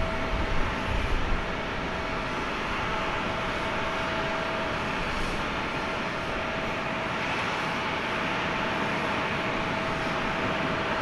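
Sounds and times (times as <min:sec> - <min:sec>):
jet airliner hiss and whine: 0:00.0 - 0:11.0.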